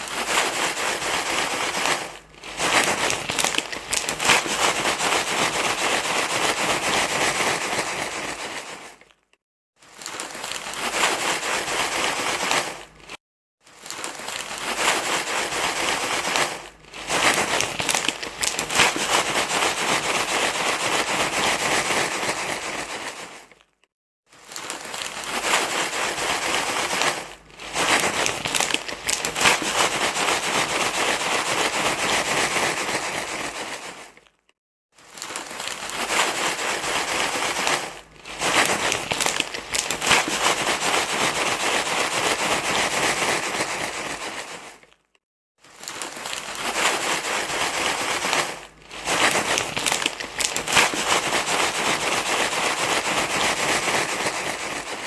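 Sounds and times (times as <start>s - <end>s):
rustling and crinkling: 0.0s - 55.0s.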